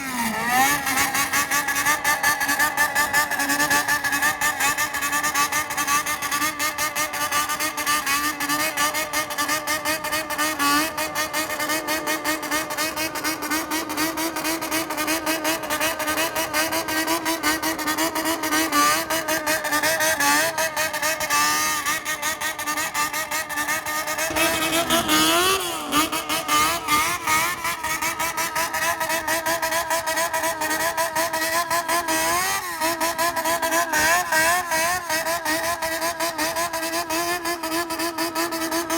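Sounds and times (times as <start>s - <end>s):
motorcycle engine revving rhythmically: 0.0s - 38.9s.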